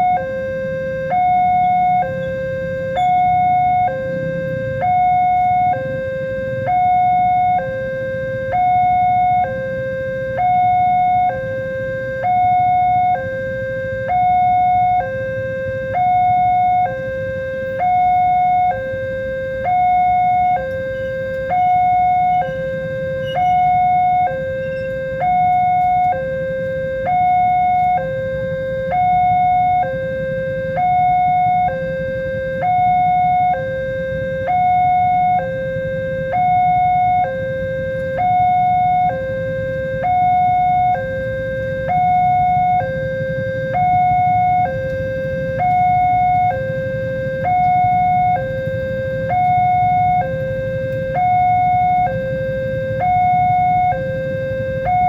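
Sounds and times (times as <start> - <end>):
two-tone level crossing alarm: 0.0 - 55.0.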